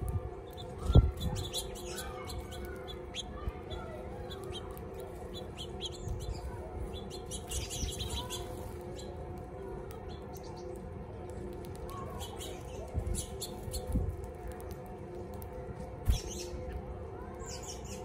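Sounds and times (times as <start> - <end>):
steady low hum: 0.0 - 18.0
birds chirping: 0.4 - 14.1, 16.1 - 18.0.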